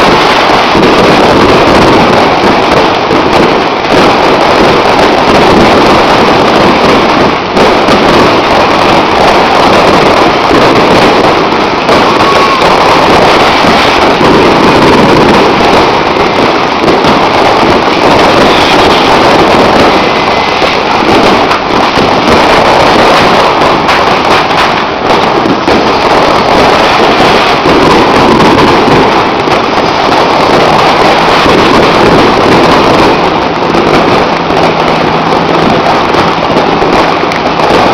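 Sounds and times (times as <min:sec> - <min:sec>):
fireworks and firecrackers banging: 0:00.0 - 0:37.9.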